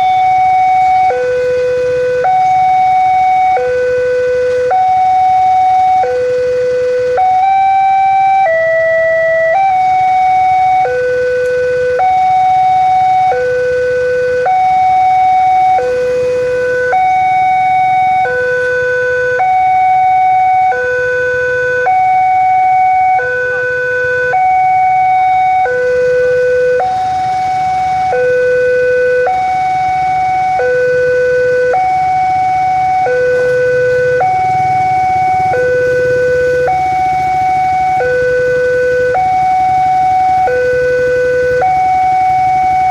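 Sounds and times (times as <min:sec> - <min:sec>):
two-tone crossing alarm: 0:00.0 - 0:42.9.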